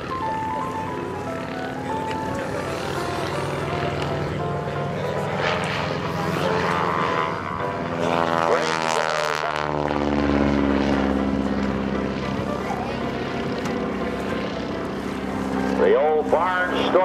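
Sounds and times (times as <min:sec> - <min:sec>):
biplane engine droning: 0:00.0 - 0:17.0.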